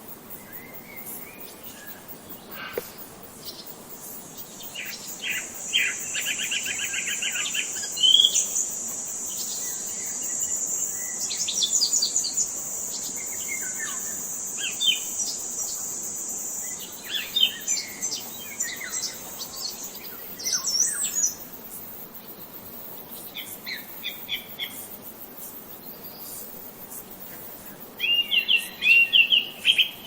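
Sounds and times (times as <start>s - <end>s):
high insect drone: 0.0s - 30.0s
songbirds chirping: 0.2s - 30.0s.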